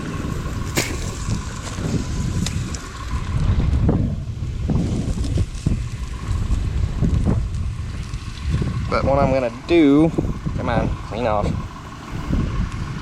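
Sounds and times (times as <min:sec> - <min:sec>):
combine harvester rumbling: 0:00.0 - 0:13.0
wind noise on microphone: 0:00.0 - 0:13.0.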